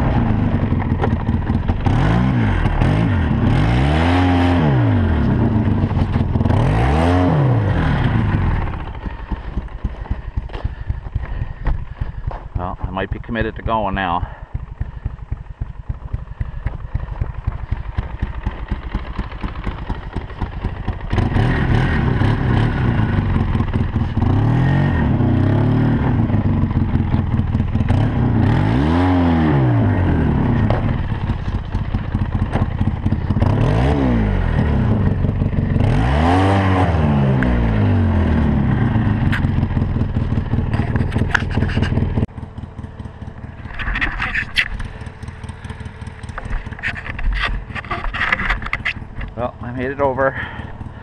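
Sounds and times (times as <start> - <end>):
atv engine revving: 0.0 - 51.0.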